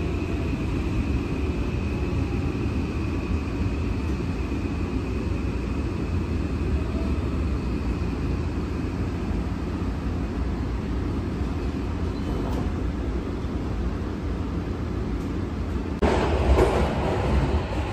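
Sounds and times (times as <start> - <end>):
subway car running rumble: 0.0 - 17.9.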